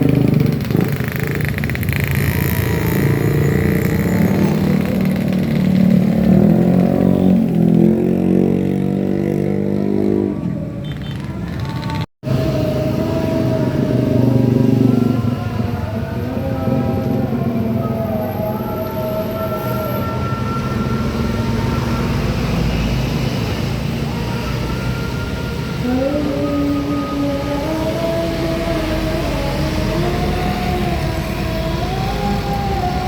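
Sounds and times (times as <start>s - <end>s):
bus engine passing: 0.0s - 33.0s.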